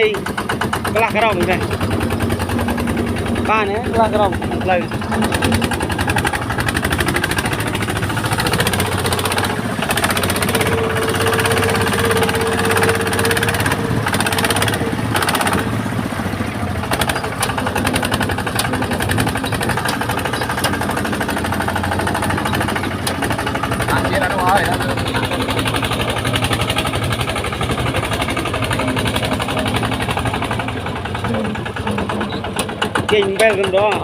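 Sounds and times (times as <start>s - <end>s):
higher hum: 0.0s - 32.9s
harvester engine clattering: 0.0s - 34.0s.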